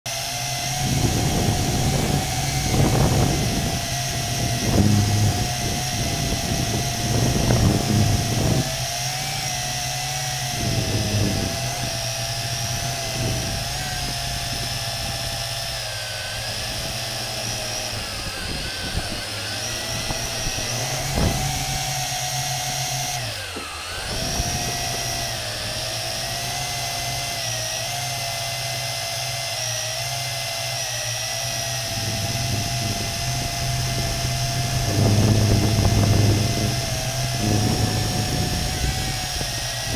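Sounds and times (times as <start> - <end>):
drone propellers whining: 0.1 - 39.9
gusty low wind rumble: 0.5 - 28.7, 31.4 - 39.9.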